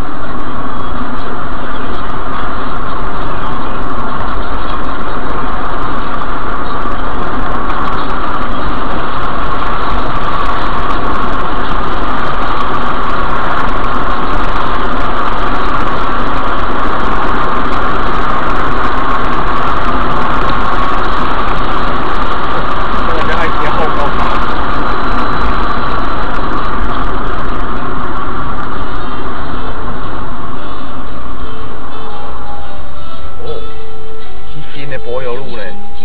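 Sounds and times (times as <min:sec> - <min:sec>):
car road and engine noise: 0:00.0 - 0:36.0.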